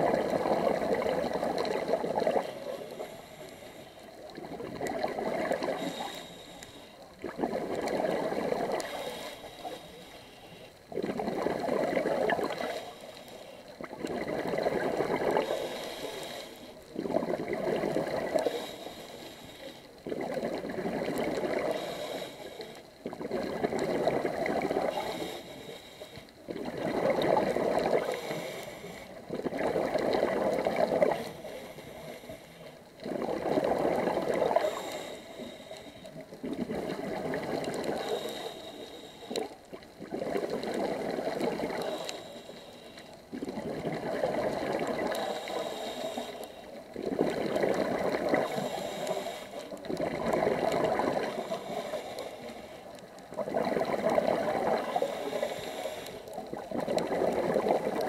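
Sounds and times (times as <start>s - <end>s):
exhaled bubbles gurgling underwater: 0.0s - 58.0s.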